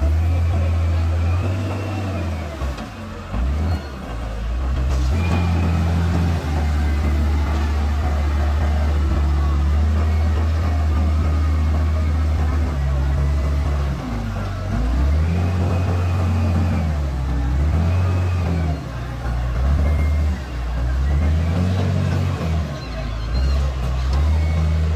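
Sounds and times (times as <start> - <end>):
diesel engine under load: 0.0 - 24.9.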